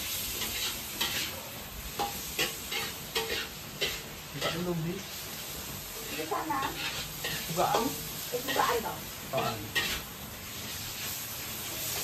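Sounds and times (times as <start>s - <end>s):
spatula scraping pan: 0.0s - 4.8s, 6.0s - 12.0s
food sizzling in a wok: 0.0s - 12.0s.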